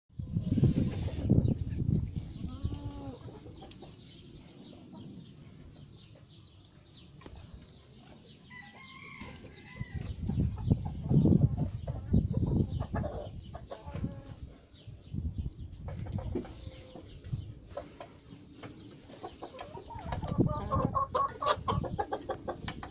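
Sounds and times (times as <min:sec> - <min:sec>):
chickens calling: 0:00.2 - 0:22.9.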